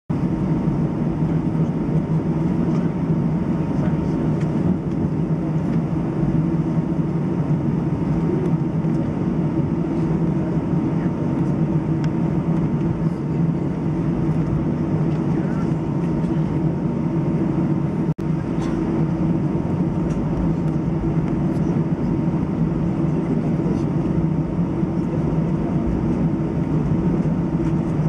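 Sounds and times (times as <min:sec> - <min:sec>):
airliner engines droning: 0:00.1 - 0:28.0.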